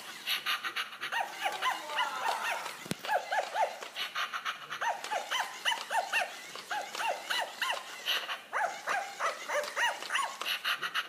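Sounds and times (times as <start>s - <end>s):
electronic toy dog yipping: 0.0s - 11.0s.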